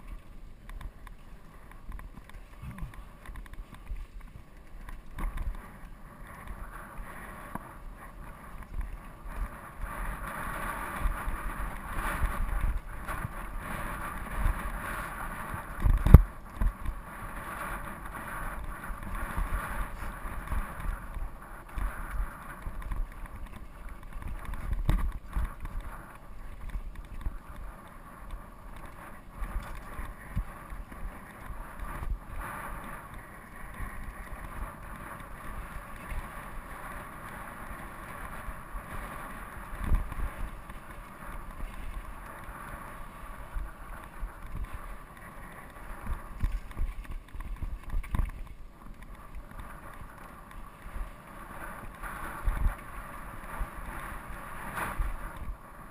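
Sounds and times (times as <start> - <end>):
bike tyres rolling on rocky trail: 0.0 - 55.9
wind buffeting microphone: 0.0 - 55.9.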